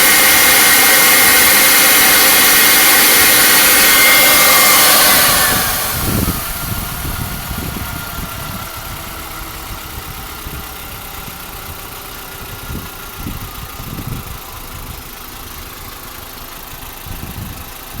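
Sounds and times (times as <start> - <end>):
hissing whine: 0.0 - 16.5
car engine idling: 0.0 - 18.0.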